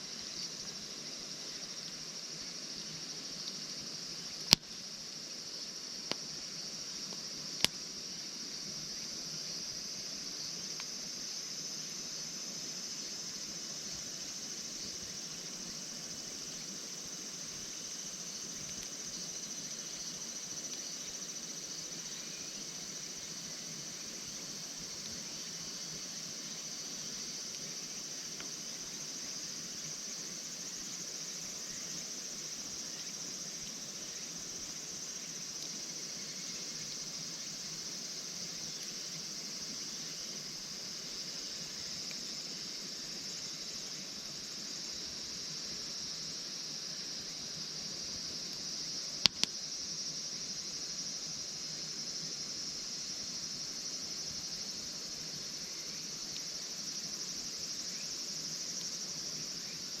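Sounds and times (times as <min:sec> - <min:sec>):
crickets trilling: 0:00.0 - 1:00.0.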